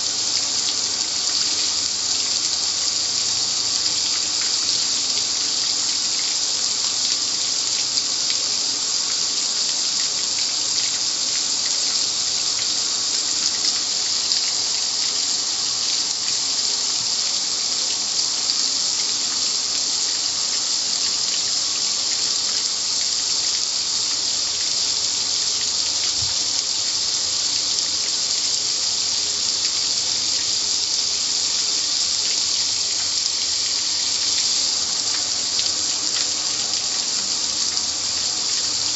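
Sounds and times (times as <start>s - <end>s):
water jets spraying: 0.0s - 38.9s.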